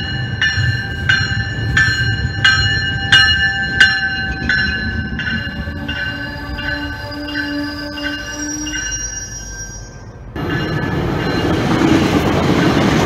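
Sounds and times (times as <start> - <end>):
train cars rumbling: 0.0 - 13.0
train warning bell ringing: 0.0 - 13.0.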